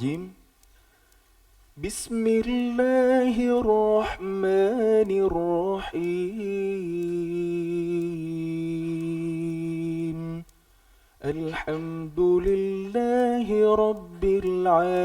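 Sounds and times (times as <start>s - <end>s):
man chanting: 0.0s - 0.4s, 1.8s - 10.5s, 11.2s - 15.0s.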